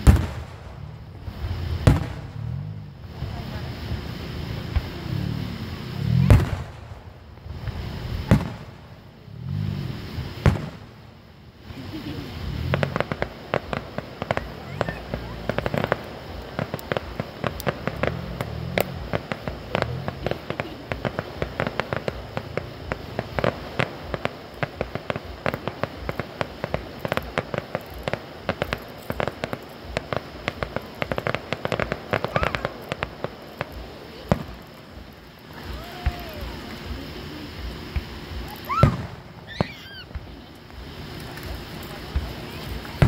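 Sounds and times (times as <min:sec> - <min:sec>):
distant fireworks crackling and banging: 0:00.0 - 0:43.0.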